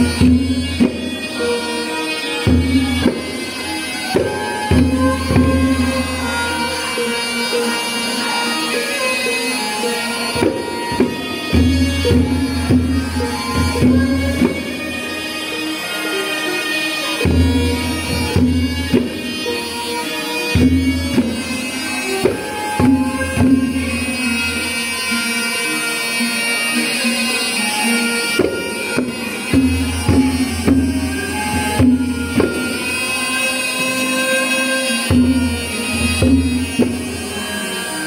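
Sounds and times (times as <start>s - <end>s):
hand drum strokes: 0.0s - 16.6s, 17.2s - 25.2s, 26.3s - 38.0s
reedy wind instrument melody: 0.0s - 38.0s.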